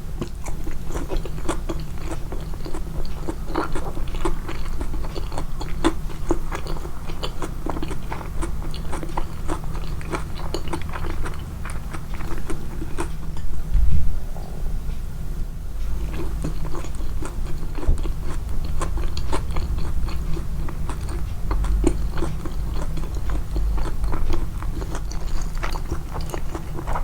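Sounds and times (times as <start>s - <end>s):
close-miked chewing: 0.0s - 13.5s, 15.8s - 27.0s.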